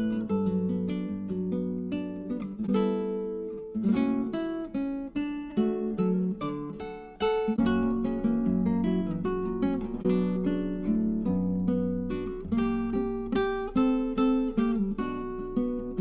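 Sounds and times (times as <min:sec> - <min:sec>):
acoustic guitar plucking melody: 0:00.0 - 0:16.0.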